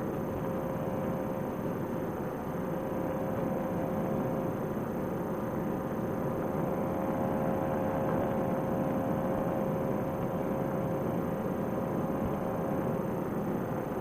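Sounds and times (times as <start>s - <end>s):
paramotor engine droning: 0.0s - 14.0s.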